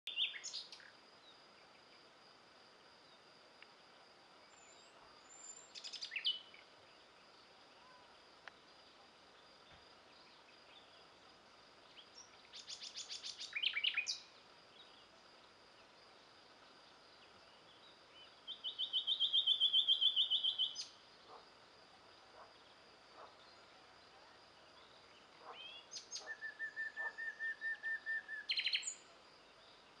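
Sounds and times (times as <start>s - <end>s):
songbirds singing: 0.1s - 2.2s, 4.4s - 21.5s, 22.3s - 30.0s.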